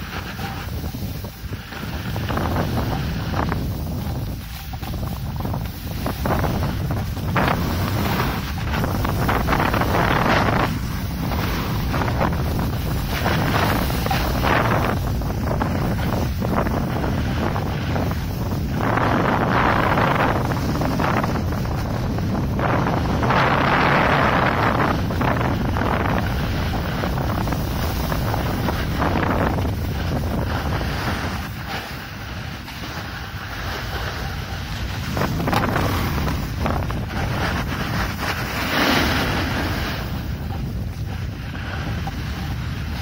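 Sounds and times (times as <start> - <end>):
snowboard scraping snow: 0.0 - 43.0
wind buffeting microphone: 0.0 - 43.0.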